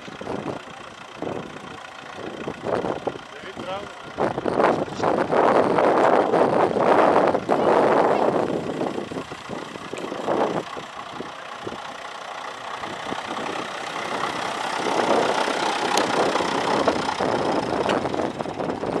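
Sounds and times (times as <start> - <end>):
tractor engine running slowly: 0.0 - 19.0.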